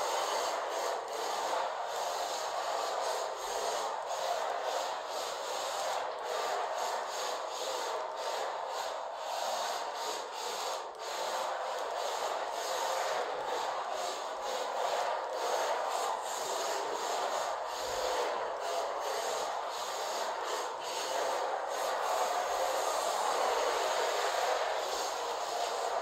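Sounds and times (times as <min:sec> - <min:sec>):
toy car tyres scrubbing floor: 0:00.0 - 0:26.0.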